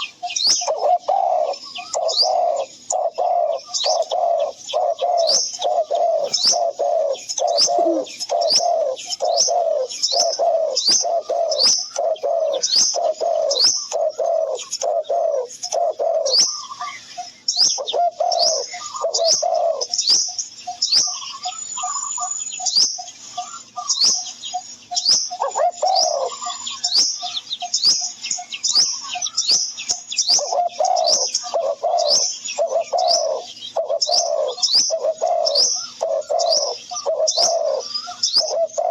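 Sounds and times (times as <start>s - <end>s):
high bird chirp: 0.0s - 38.9s
low bird call: 0.0s - 38.9s.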